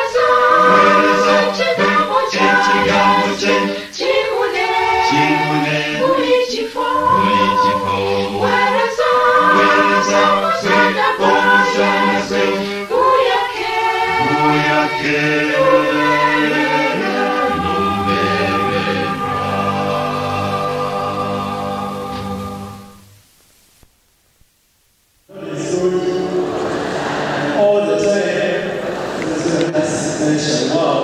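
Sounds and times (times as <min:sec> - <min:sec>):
choir singing: 0:00.0 - 0:23.1, 0:25.3 - 0:31.0.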